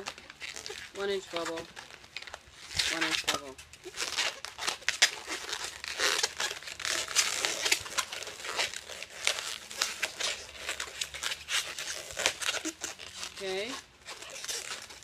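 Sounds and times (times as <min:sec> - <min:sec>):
balloon rubbing and rustling: 0:00.0 - 0:15.0.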